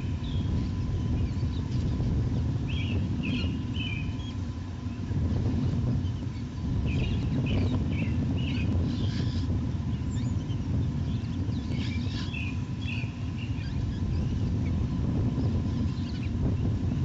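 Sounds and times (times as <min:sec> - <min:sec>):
wind rumbling: 0:00.0 - 0:17.0.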